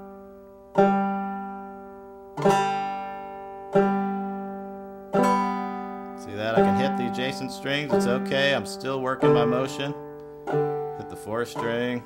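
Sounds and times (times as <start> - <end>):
banjo string plucked: 0.0 - 12.0.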